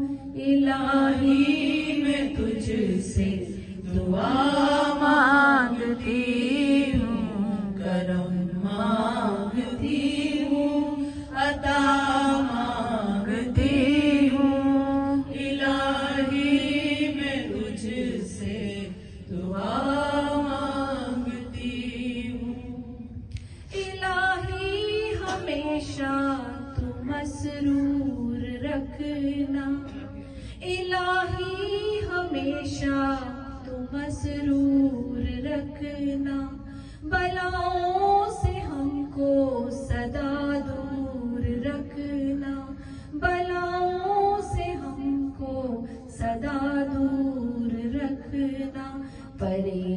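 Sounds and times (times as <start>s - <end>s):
woman chanting: 0.0s - 23.1s, 23.7s - 49.9s.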